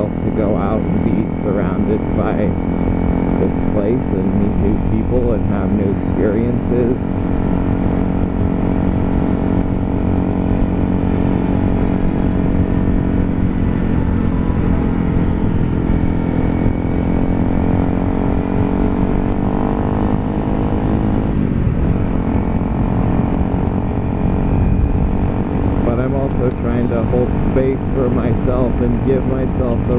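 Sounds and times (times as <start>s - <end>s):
motorcycle engine cruising: 0.0s - 29.9s
wind rush: 0.0s - 29.9s.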